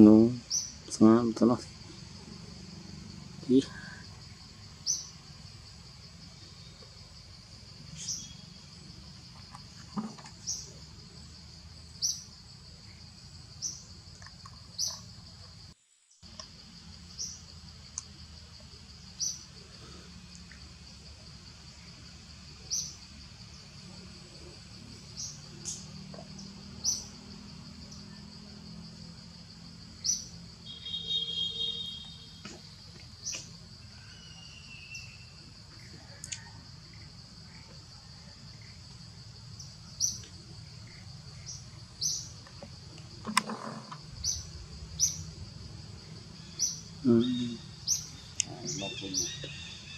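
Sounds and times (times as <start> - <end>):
insect drone: 0.0 - 49.9.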